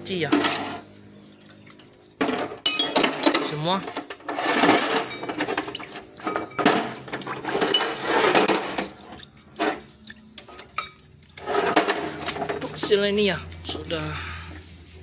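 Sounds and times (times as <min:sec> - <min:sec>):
liquid sloshing and splashing: 0:00.0 - 0:15.0.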